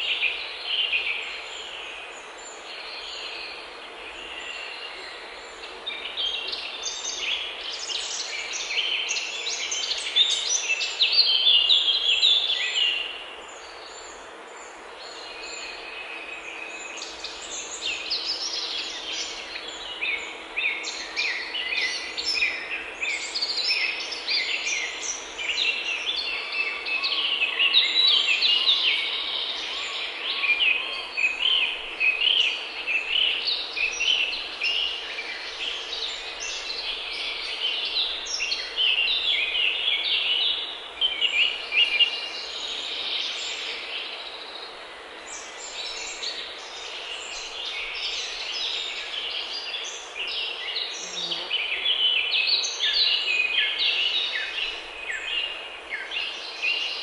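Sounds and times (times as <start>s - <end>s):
songbirds chorus: 0.0s - 57.0s.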